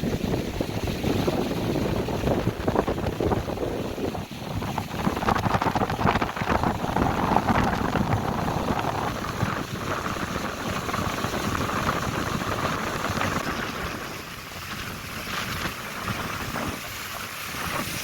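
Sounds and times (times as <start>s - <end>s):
wind buffeting microphone: 0.0s - 18.0s
rain hiss: 1.0s - 18.0s.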